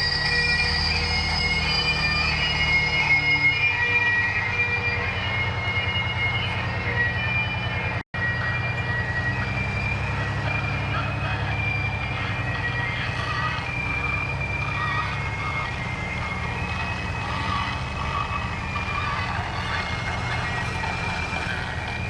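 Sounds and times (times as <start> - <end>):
diesel engine rumbling: 0.0 - 22.0
steady high tones: 0.0 - 22.0.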